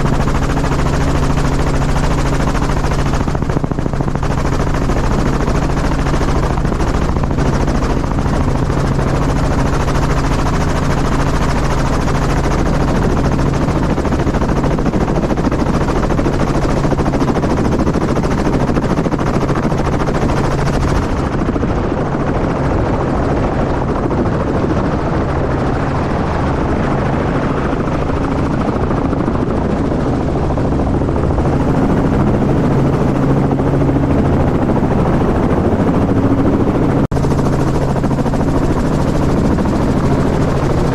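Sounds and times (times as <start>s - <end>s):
helicopter rotor and engine drone: 0.0s - 40.9s.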